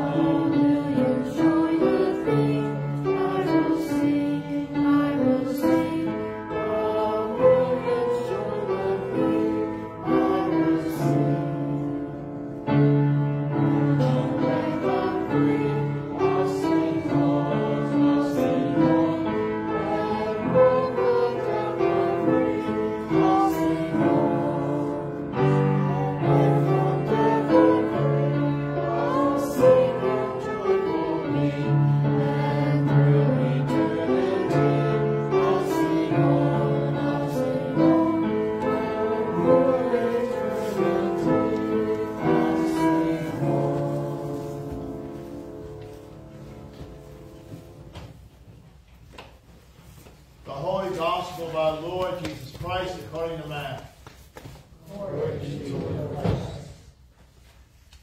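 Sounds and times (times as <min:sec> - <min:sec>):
congregation singing a hymn: 0:00.0 - 0:48.4, 0:54.8 - 0:57.1.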